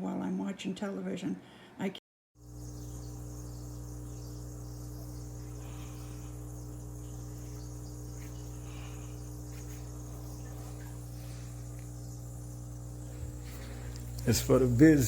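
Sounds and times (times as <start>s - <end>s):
high-pitched buzzing: 2.4s - 15.0s
steady low hum: 2.4s - 15.0s.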